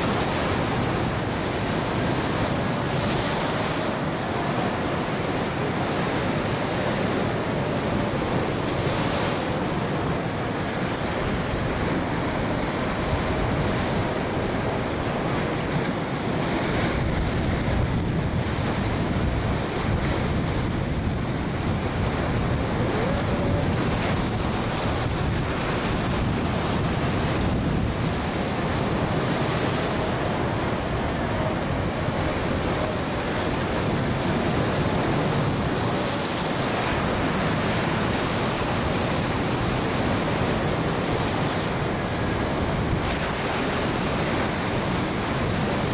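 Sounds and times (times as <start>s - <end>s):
waves breaking on beach: 0.0s - 45.9s.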